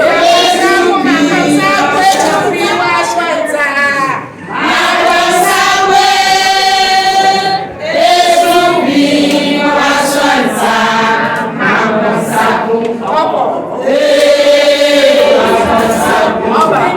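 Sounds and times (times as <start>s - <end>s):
group of voices singing: 0.0s - 16.9s.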